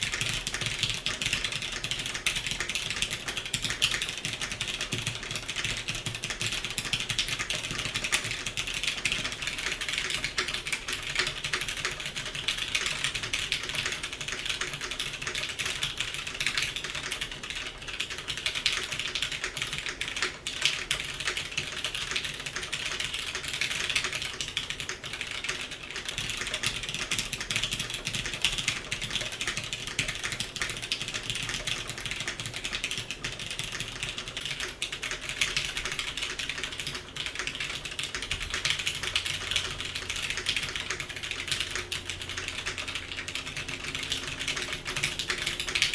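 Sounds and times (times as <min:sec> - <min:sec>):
mechanical keyboard typing: 0:00.0 - 0:45.9.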